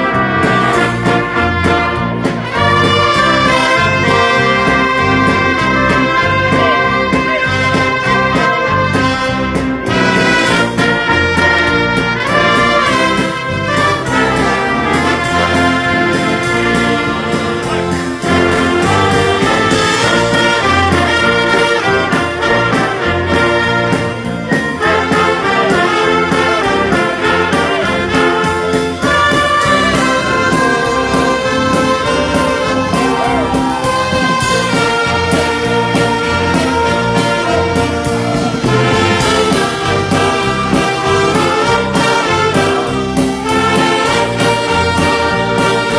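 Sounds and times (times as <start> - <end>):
large brass band playing: 0.0 - 45.9.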